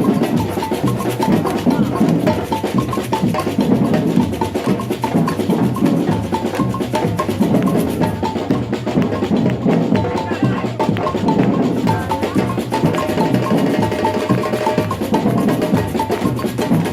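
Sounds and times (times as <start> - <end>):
deep drums: 0.0 - 16.9.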